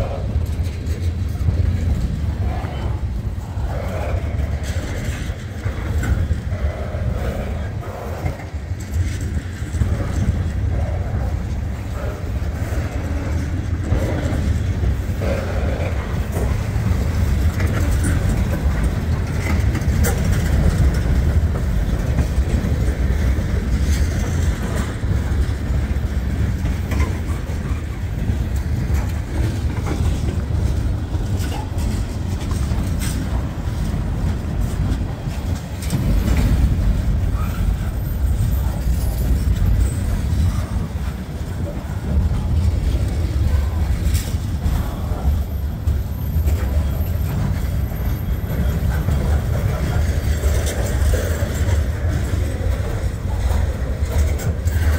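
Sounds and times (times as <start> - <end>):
freight cars clicking and rattling: 0.0 - 54.9
train wheels rumbling on rails: 0.0 - 54.9.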